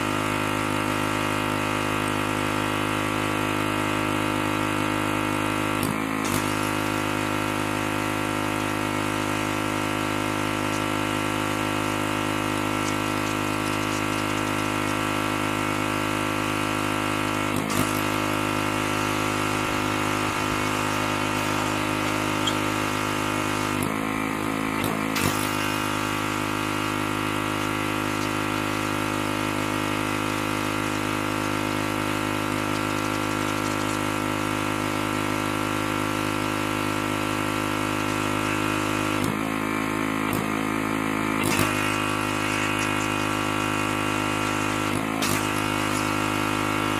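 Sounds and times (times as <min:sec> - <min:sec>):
pressure washer running: 0:00.0 - 0:46.9.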